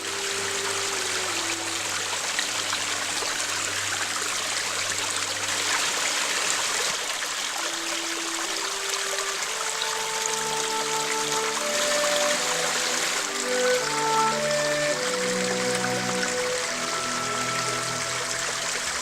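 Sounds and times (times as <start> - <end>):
faint sustained musical notes: 0.0 - 19.0
stream water flowing: 0.0 - 19.0.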